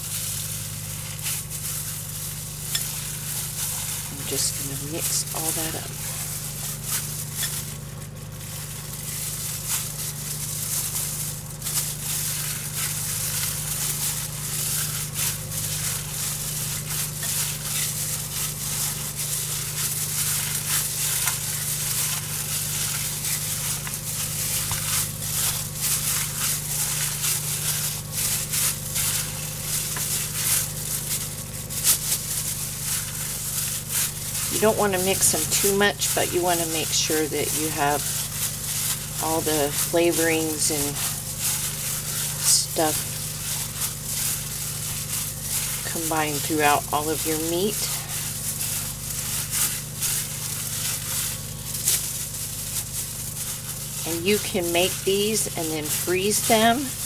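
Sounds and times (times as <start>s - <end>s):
plastic glove crinkling: 0.0s - 57.0s.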